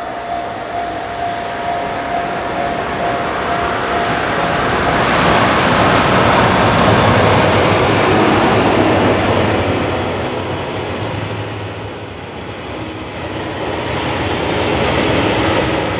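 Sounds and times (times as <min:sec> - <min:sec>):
freight train rolling on rails: 0:00.0 - 0:15.9.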